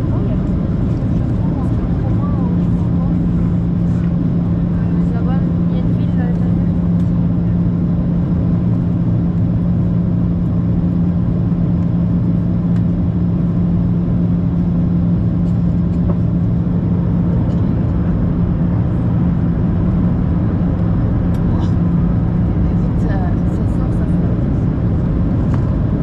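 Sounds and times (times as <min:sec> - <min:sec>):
airliner cabin drone: 0:00.0 - 0:26.0.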